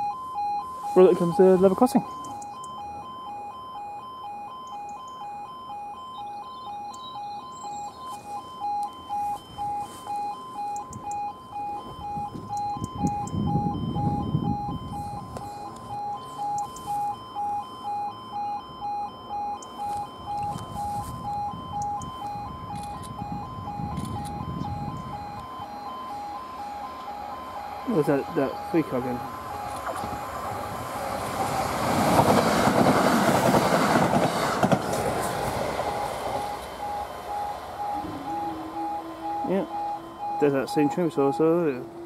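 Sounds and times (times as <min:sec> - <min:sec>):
level crossing alarm pulsing tone: 0:00.0 - 0:34.2, 0:35.1 - 0:42.0.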